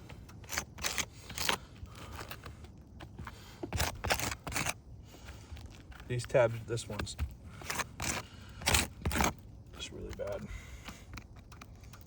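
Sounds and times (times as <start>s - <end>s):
shingles scraping and crackling: 0.0s - 12.0s.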